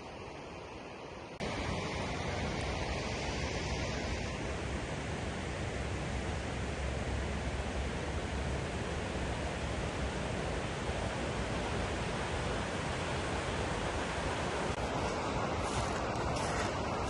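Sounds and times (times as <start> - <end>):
river water rushing: 0.1 - 17.0.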